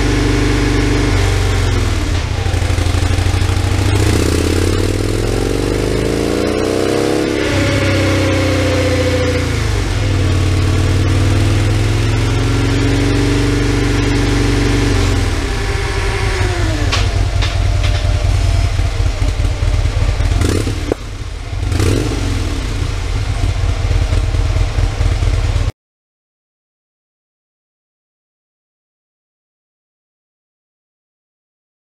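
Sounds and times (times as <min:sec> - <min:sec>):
motorcycle engine revving and idling: 0:00.0 - 0:25.7.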